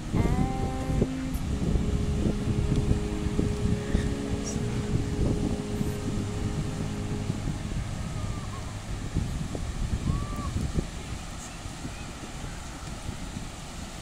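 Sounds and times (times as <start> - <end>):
steady hum: 0.0 - 11.6
wind buffeting microphone: 0.0 - 14.0.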